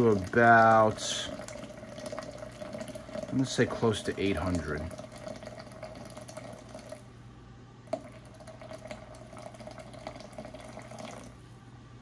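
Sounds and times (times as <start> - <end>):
water pouring into glass: 0.0 - 7.1, 7.9 - 11.4.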